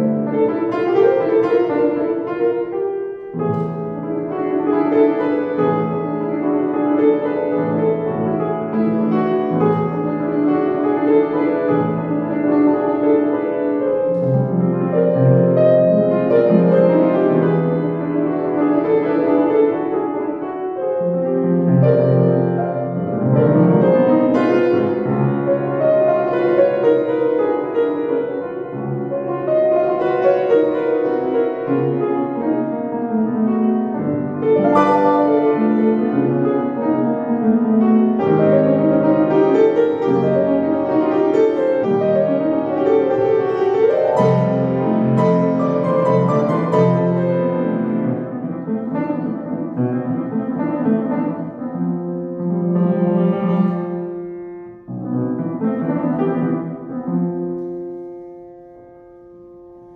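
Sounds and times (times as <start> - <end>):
piano chords: 0.0 - 59.9.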